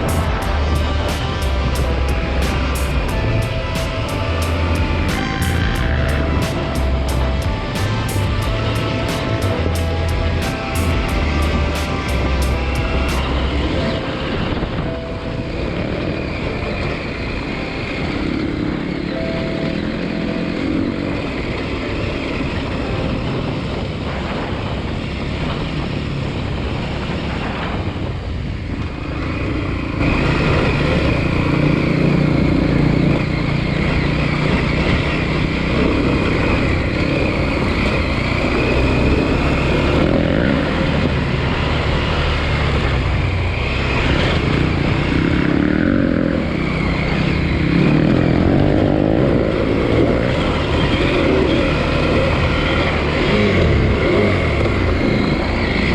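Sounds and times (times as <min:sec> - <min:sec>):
motorcycle engine running: 0:00.0 - 0:15.1, 0:22.2 - 0:55.9.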